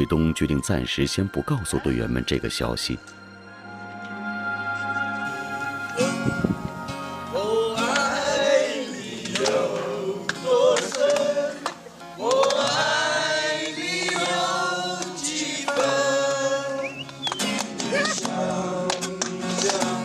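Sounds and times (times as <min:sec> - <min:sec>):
music: 0:00.0 - 0:20.0
voices singing long wavering notes: 0:03.2 - 0:20.0.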